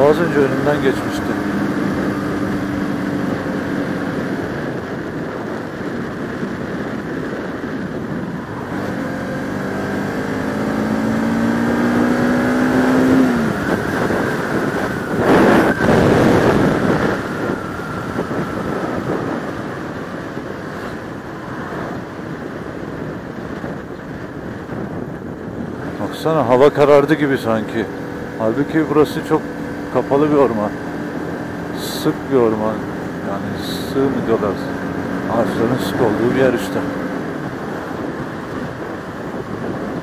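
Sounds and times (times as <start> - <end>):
motorcycle engine accelerating: 0.0 - 40.0
wind noise rushing: 0.0 - 40.0.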